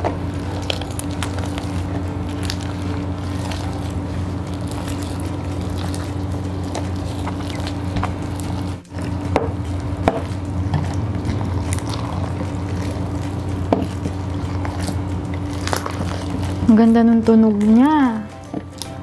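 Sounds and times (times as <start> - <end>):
slime squishing by hand: 0.0 - 19.0
foam beads crackling and popping: 0.3 - 8.8, 11.4 - 19.0.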